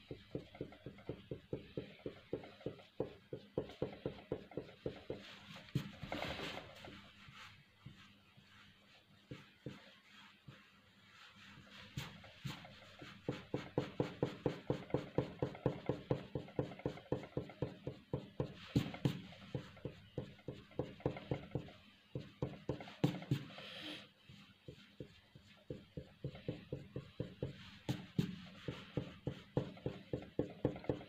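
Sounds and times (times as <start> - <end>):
pencil scratching on paper: 0.0 - 31.0.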